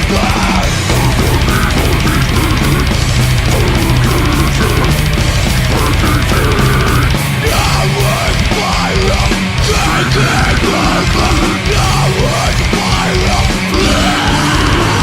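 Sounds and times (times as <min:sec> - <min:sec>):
deathgrind metal music: 0:00.0 - 0:15.0.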